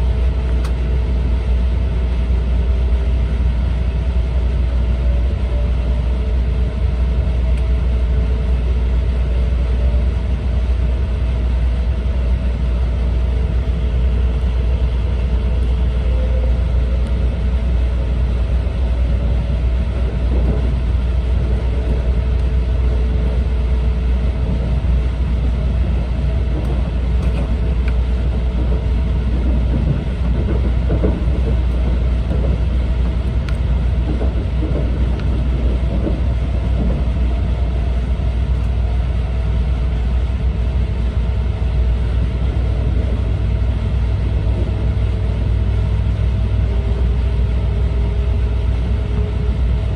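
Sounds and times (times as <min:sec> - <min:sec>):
train low rumble inside cabin: 0:00.0 - 0:49.9.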